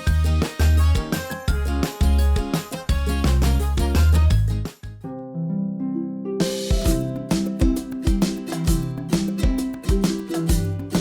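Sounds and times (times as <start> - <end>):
upbeat music with bass and plucked melody: 0.0 - 5.1, 6.4 - 11.0.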